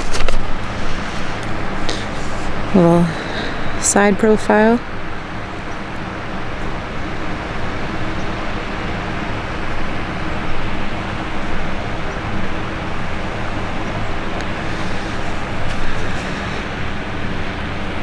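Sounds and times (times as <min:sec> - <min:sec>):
vehicle noise: 0:00.0 - 0:18.0.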